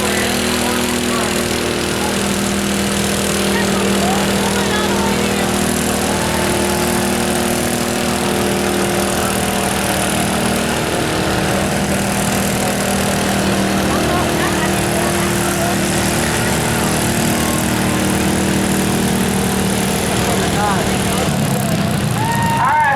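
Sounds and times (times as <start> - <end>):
lawn mower engine running: 0.0 - 22.9.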